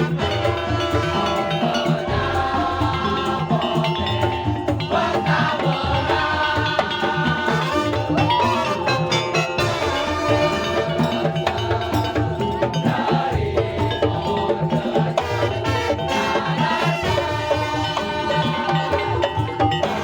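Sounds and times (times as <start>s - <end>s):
percussion ensemble playing: 0.0s - 20.0s.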